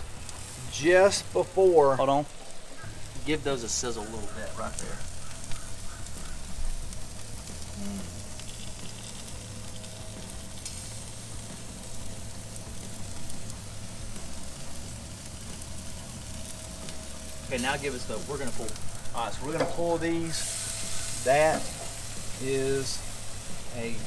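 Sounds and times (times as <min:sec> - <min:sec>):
meat sizzling on grill: 0:00.0 - 0:24.0.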